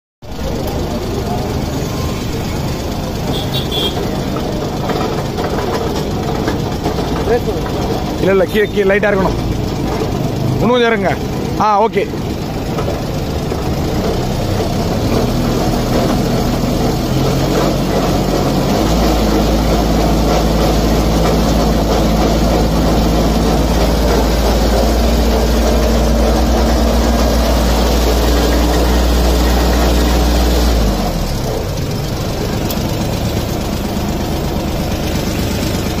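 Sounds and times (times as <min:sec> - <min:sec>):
tractor diesel engine running: 0:00.2 - 0:36.0.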